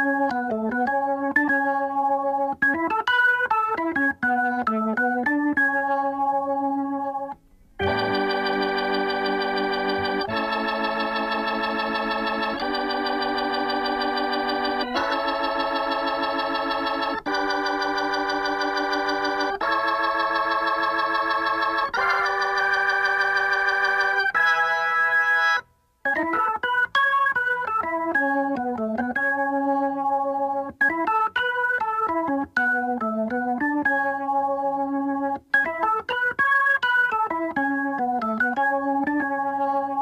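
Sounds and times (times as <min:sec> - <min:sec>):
organ chords: 0:00.0 - 0:40.0.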